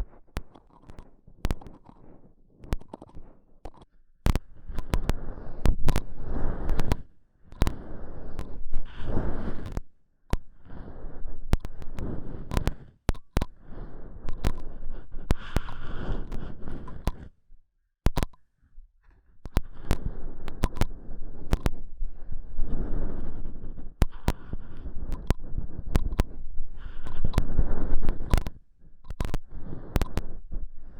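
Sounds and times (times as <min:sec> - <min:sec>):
rubbing on microphone: 0:00.0 - 0:17.4, 0:19.0 - 0:30.9.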